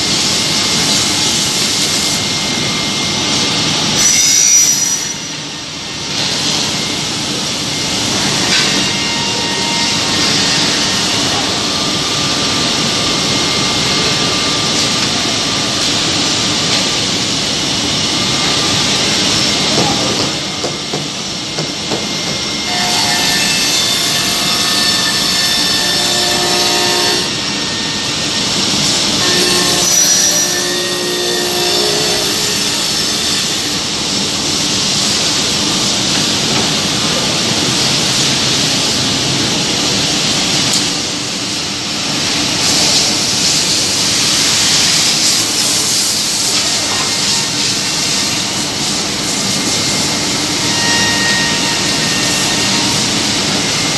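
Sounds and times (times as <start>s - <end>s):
high-pitched whine: 0.0s - 53.9s.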